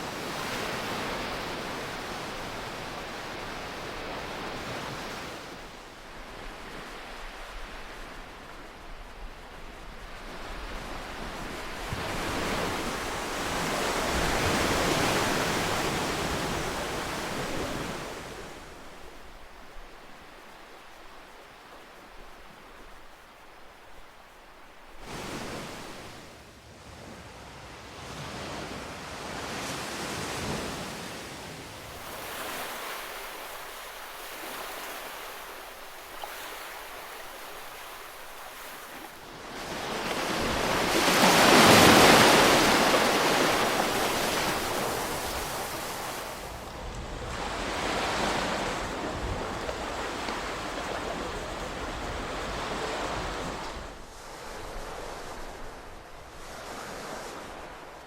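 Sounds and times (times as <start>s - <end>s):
ocean waves breaking: 0.0s - 26.3s, 28.0s - 58.0s.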